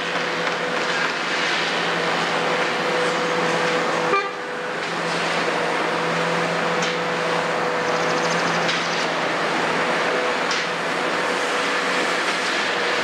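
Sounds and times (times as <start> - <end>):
excavator diesel engine: 0.0 - 13.0
truck pulling away: 0.0 - 13.0.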